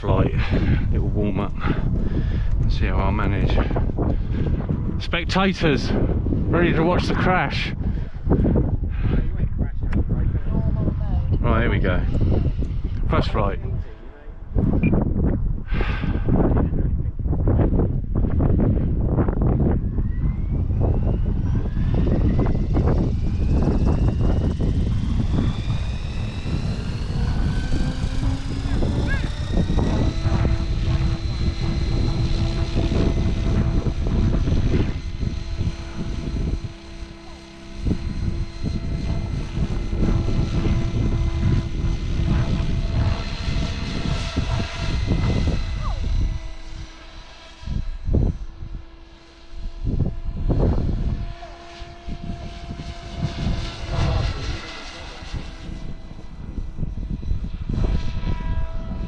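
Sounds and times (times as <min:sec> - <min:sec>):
model helicopter whine: 0:00.0 - 0:59.0
wind buffeting microphone: 0:00.0 - 0:59.0.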